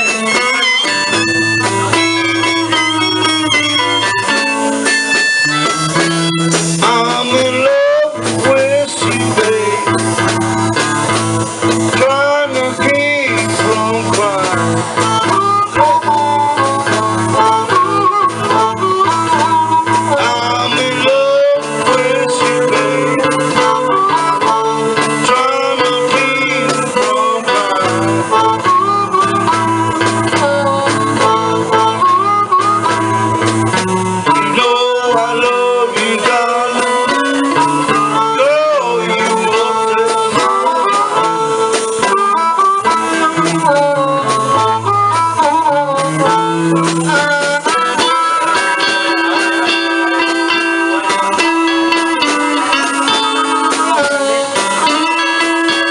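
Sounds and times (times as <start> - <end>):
harmonica wailing: 0.0 - 55.9
plucked guitar: 0.0 - 55.9.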